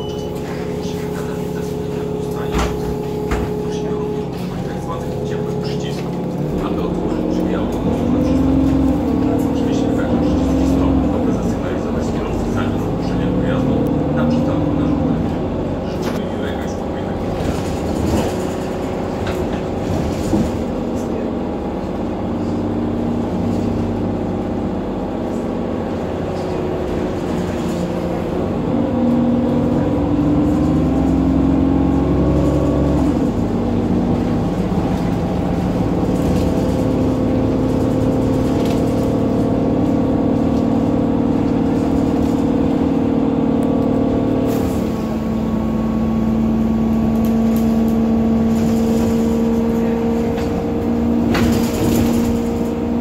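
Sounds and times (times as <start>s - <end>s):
bus diesel engine: 0.0s - 53.0s.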